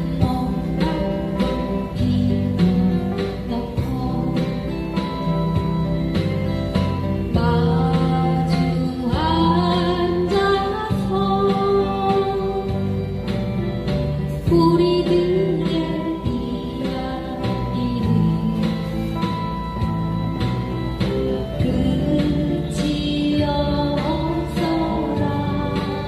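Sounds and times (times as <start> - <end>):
guitars strumming chords: 0.0 - 26.0
sliding lead guitar line: 0.0 - 26.0.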